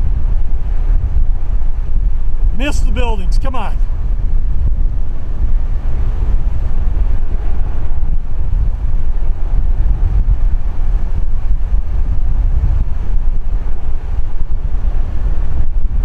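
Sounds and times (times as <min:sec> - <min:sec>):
wind buffeting microphone: 0:00.0 - 0:02.7, 0:03.3 - 0:16.0.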